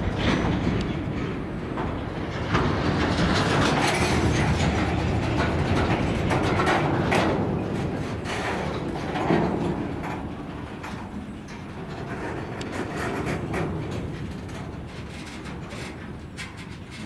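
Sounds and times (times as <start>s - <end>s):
train wheels rumbling on rail: 0.0s - 17.0s
wagon knocks and clanks: 0.0s - 17.0s.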